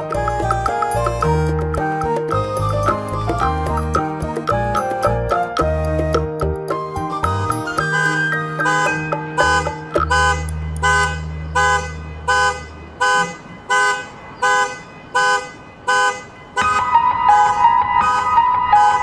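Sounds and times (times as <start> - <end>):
background music with honk-like chords: 0.0 - 19.0.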